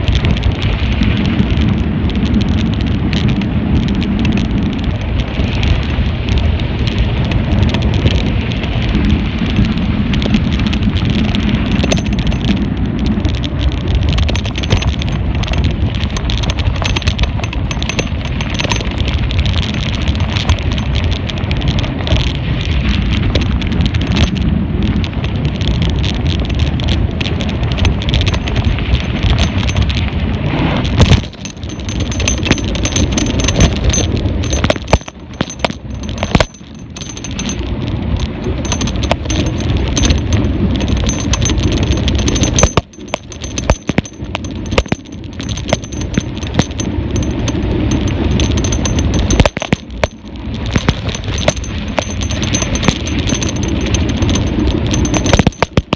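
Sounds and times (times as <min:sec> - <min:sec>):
mountain bike rattling and clicking: 0:00.0 - 0:55.9
wind rumble on microphone: 0:00.0 - 0:55.9.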